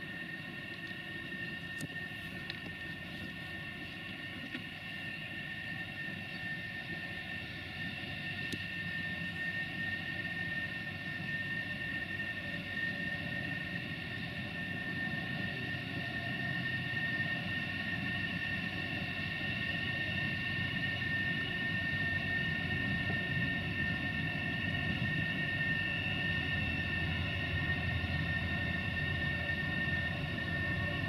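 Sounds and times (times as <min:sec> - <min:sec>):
locomotive whine and rumble: 0:00.0 - 0:31.0.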